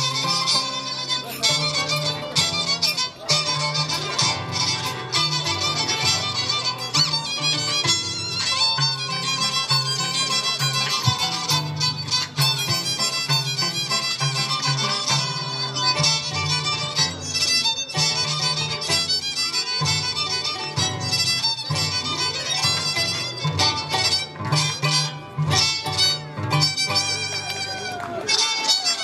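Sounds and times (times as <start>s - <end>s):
harp bass: 0.0s - 28.6s
fast violin melody: 0.0s - 29.0s.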